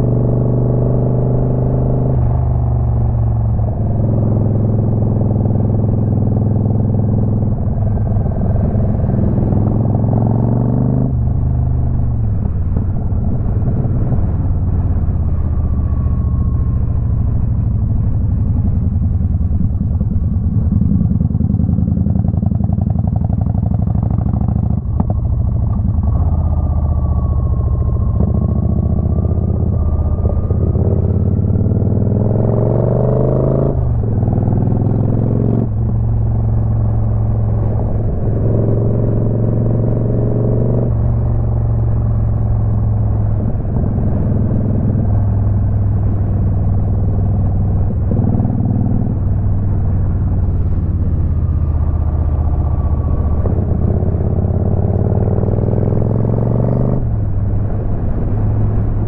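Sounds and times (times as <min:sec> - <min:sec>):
motorcycle engine revving: 0:00.0 - 0:57.4.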